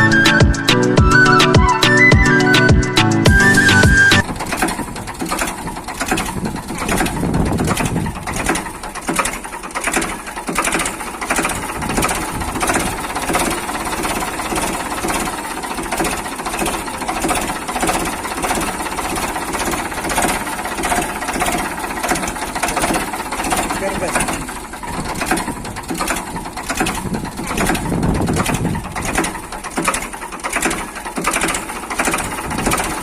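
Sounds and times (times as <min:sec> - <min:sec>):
tractor engine clatter: 0:03.0 - 0:33.0.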